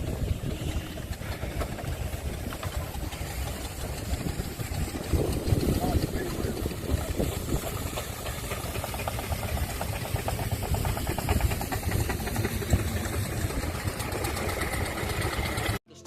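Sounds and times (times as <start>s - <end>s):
steam engine running: 0.0s - 15.8s.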